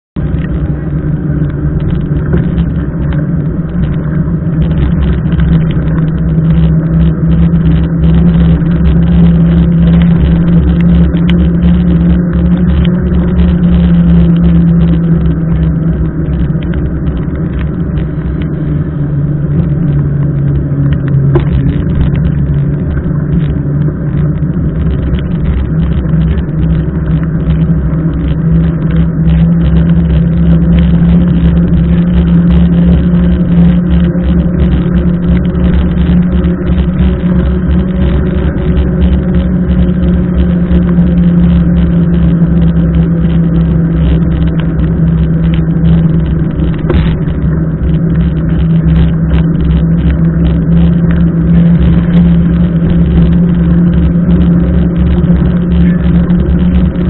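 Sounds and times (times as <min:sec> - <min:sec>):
bike tyre and road noise: 0:00.0 - 0:57.0
wind buffeting microphone: 0:00.2 - 0:57.0.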